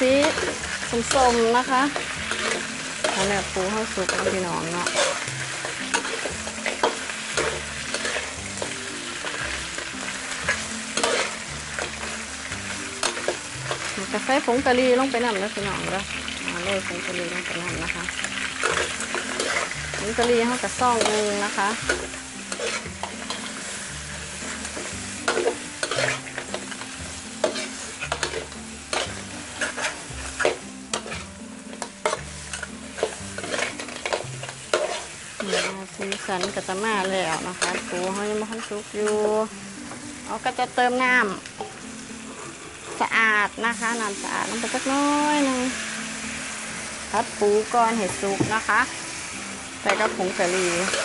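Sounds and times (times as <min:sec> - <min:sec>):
metal spatula scraping wok: 0:00.0 - 0:39.3, 0:41.6 - 0:43.1, 0:49.2 - 0:51.0
crab sizzling in oil: 0:00.0 - 0:51.0.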